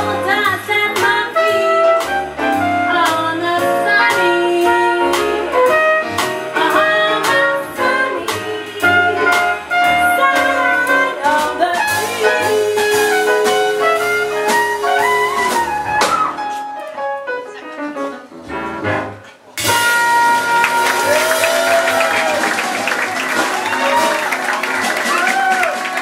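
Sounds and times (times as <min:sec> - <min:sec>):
jazz band playing swing: 0:00.0 - 0:26.0.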